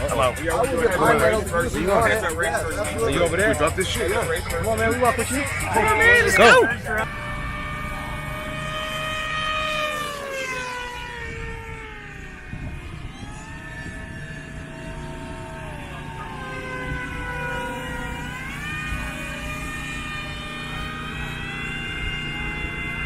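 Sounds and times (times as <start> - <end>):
drone motors and propellers whining: 0.0 - 23.0
steady low rumble: 0.0 - 23.0.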